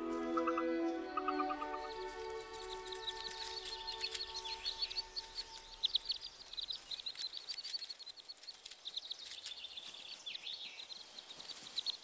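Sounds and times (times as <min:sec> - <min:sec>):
ducklings peeping: 0:00.0 - 0:12.0
faint outdoor background noise: 0:00.0 - 0:12.0.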